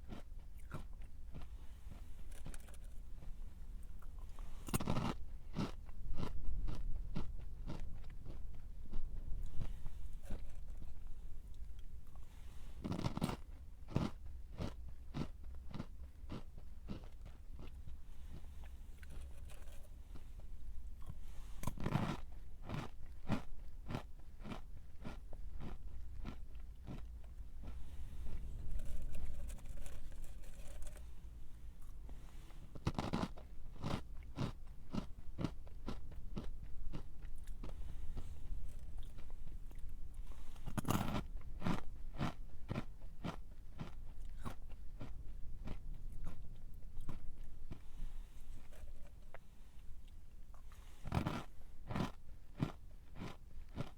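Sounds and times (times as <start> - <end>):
crunchy snack chewing: 0.0 - 3.4, 4.0 - 31.2, 31.8 - 47.9, 50.0 - 53.9.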